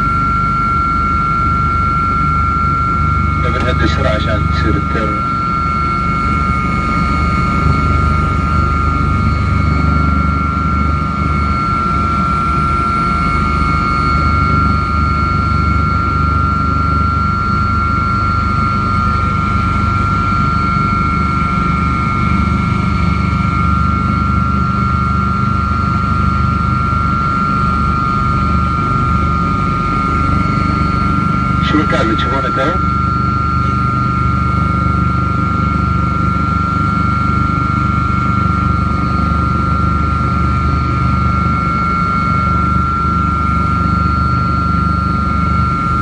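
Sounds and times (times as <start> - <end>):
helicopter rotor rumble: 0.0 - 46.0
high-pitched turbine whine: 0.0 - 46.0.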